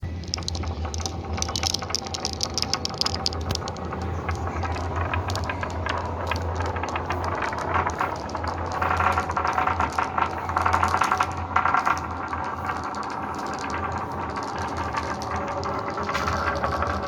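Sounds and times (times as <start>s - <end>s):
marbles rolling down track: 0.0s - 17.0s.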